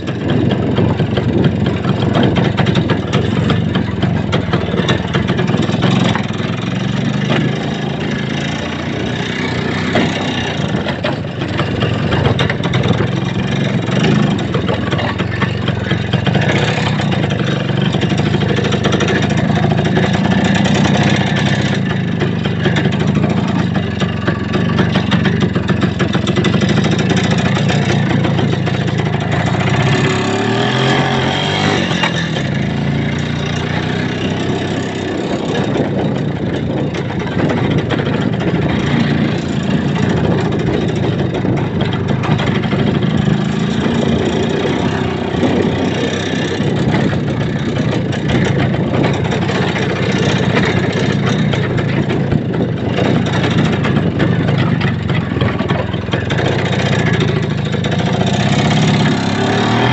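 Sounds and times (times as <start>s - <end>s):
vehicle engine running loudly: 0.0s - 59.9s.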